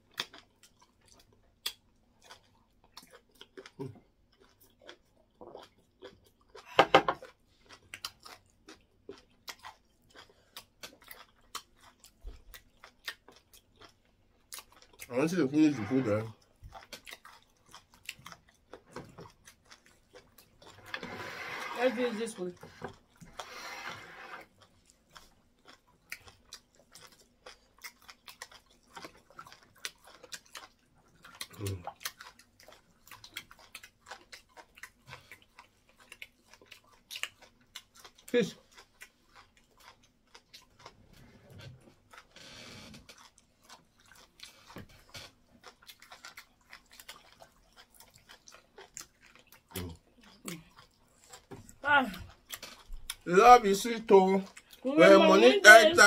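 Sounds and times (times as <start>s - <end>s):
chewing and lip-smacking: 0.0s - 21.0s, 22.4s - 23.6s, 24.4s - 56.0s.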